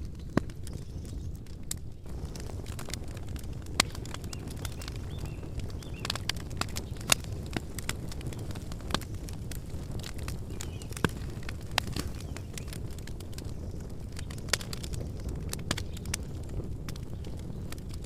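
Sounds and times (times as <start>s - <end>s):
campfire crackling and popping: 0.0s - 18.0s
low fire rumble: 0.0s - 18.0s.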